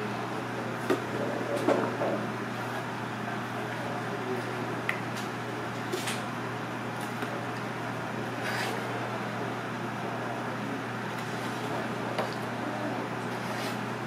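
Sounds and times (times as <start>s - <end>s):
low machine hum: 0.0s - 14.0s
room noise: 0.0s - 14.0s.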